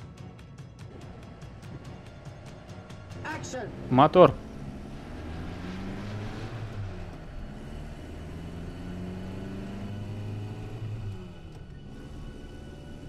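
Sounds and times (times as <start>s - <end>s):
truck engine running under load: 0.9s - 13.0s.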